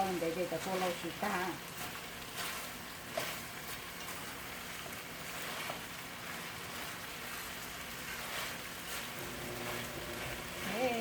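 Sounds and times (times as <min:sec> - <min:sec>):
chicken wings sizzling in a pan: 0:00.0 - 0:11.0.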